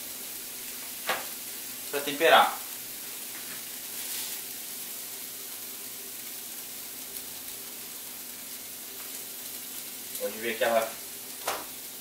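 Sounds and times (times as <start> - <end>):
pan sizzling: 0.0 - 12.0.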